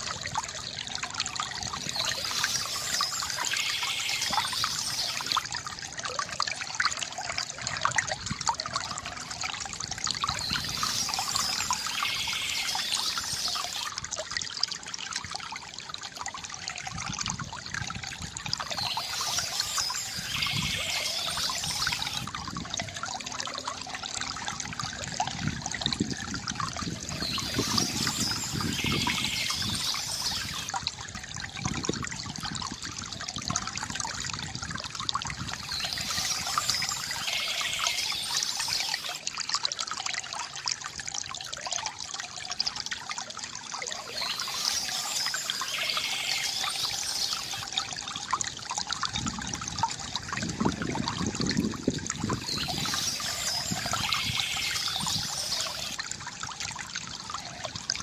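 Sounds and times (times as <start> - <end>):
water trickling from bamboo fountain: 0.0 - 58.0.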